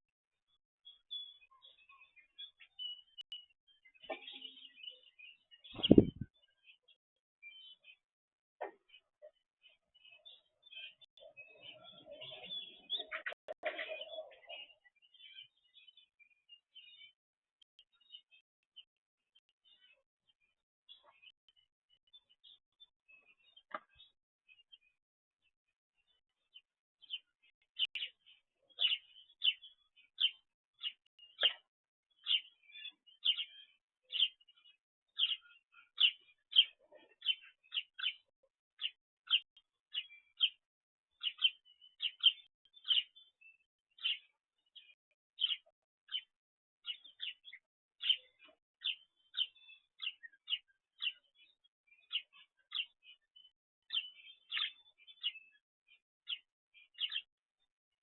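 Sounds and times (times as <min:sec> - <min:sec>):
bird chirping: 0:00.5 - 0:08.0, 0:08.6 - 0:25.0, 0:26.0 - 0:57.3.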